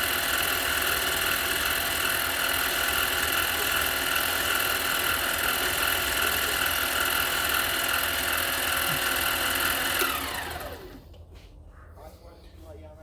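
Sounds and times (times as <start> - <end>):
lathe motor whine: 0.0 - 11.0.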